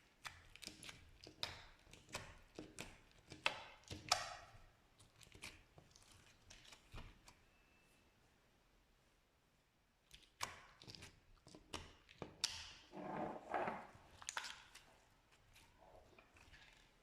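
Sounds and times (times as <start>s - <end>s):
slime squelch: 0.0s - 7.4s, 10.0s - 17.0s.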